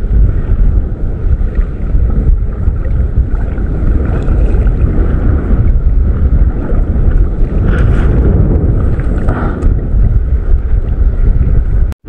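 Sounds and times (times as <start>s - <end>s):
choppy sea water washing: 0.0s - 12.0s
wind rumble on microphone: 0.0s - 12.0s.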